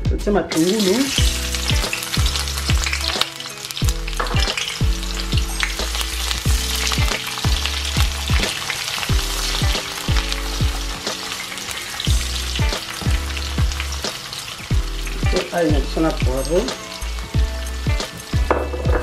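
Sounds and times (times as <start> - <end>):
background music with bass: 0.0 - 11.4, 12.0 - 19.0
onions sizzling in oil: 0.5 - 19.0.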